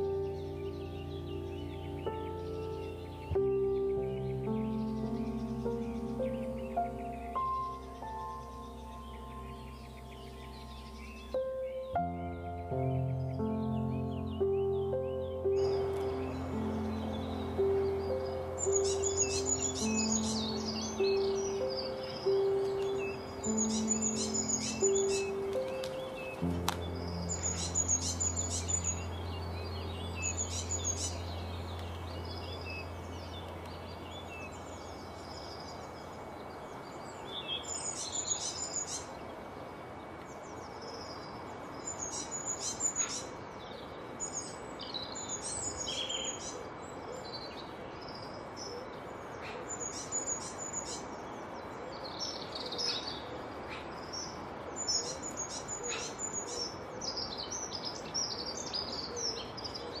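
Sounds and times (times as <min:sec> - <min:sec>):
songbirds chirping: 0:00.0 - 1:00.0
steady outdoor hiss: 0:00.0 - 1:00.0.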